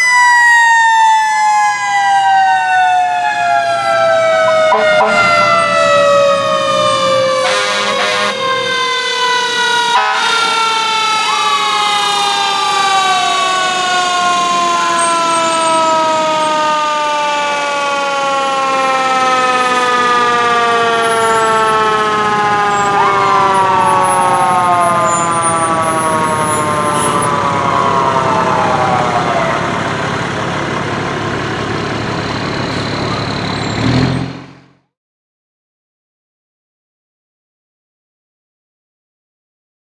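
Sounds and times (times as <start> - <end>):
siren whoops: 0.0 - 30.7, 32.0 - 34.1
mechanical siren winding down: 0.0 - 34.6.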